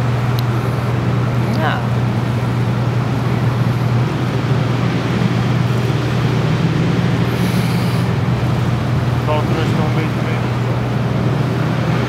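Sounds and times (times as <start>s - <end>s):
motor boat engine droning: 0.0s - 12.0s.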